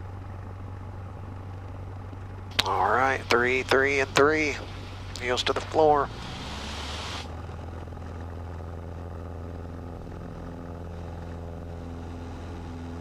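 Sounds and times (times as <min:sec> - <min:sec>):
light aircraft engine at full throttle: 0:00.0 - 0:13.0.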